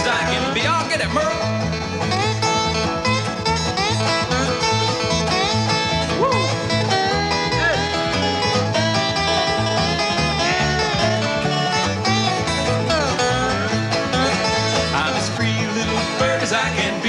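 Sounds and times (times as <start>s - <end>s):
banjo with sliding notes: 0.0s - 17.0s
bluegrass string band playing: 0.0s - 17.0s.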